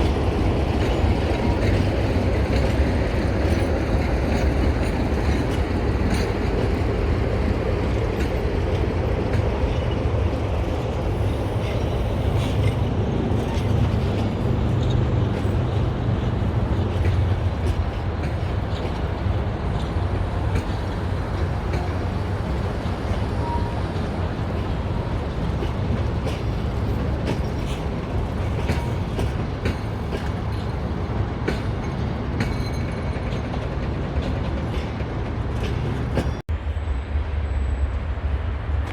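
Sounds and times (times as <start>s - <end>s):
train low rumble: 0.0s - 38.9s.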